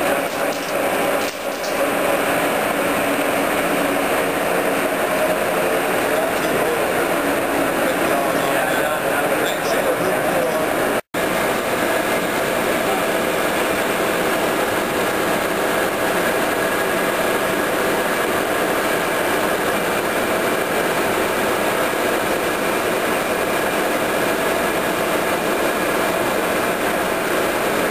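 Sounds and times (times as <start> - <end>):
machine motors humming: 0.0 - 27.9.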